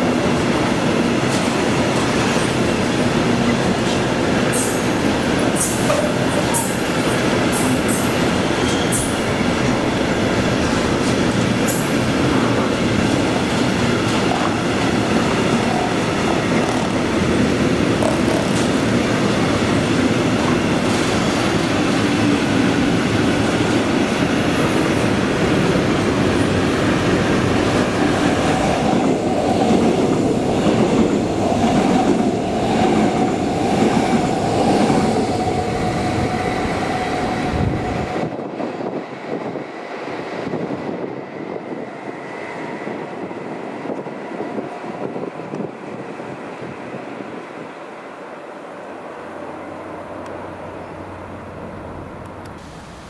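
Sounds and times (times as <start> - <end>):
train wheels rumbling on rails: 0.0 - 47.7.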